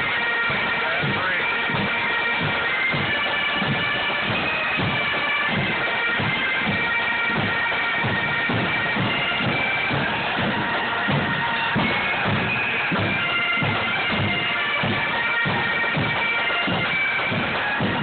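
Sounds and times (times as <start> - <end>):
bagpipes playing a tune: 0.0 - 18.0
steady drum beat: 0.0 - 18.0.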